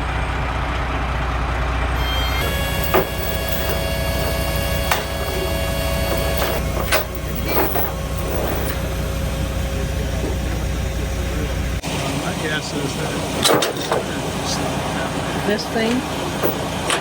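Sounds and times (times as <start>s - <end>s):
truck diesel engine running: 0.0s - 17.0s
steady whine: 1.9s - 17.0s.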